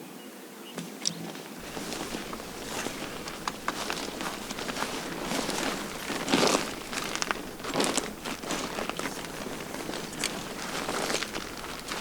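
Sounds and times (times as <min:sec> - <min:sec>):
tent fabric rustling: 0:01.6 - 0:12.0
tent poles clicking: 0:01.6 - 0:12.0.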